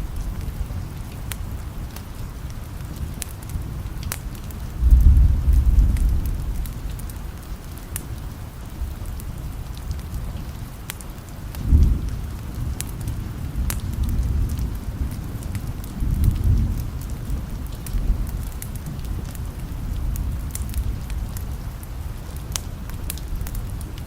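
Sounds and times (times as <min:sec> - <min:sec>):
thunder rumbling: 0:00.0 - 0:10.0, 0:11.5 - 0:24.0
steady rain: 0:00.0 - 0:24.0
wood fire crackling: 0:00.0 - 0:24.0.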